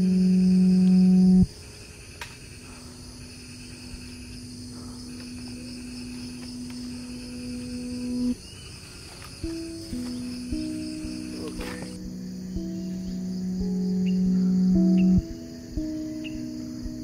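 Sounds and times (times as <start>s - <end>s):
background music: 0.0s - 1.5s, 3.7s - 8.4s, 9.4s - 17.0s
insects trilling: 0.0s - 17.0s.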